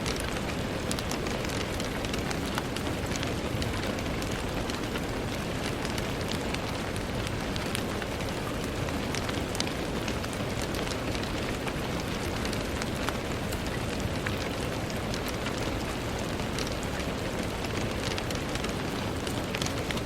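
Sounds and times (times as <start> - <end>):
rain pattering on a surface: 0.0 - 20.0.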